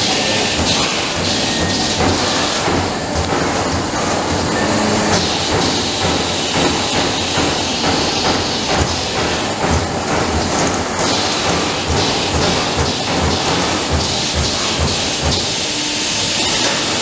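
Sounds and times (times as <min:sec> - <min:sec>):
punch press punching sheet metal: 0:00.0 - 0:15.7.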